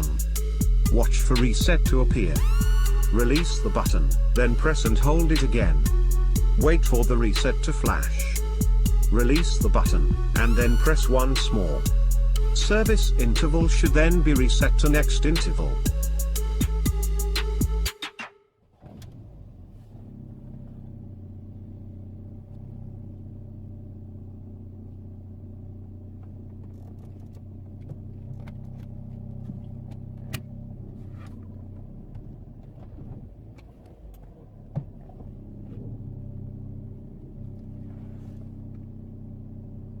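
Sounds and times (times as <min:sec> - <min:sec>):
car engine idling: 0:00.0 - 0:17.9, 0:18.8 - 0:40.0.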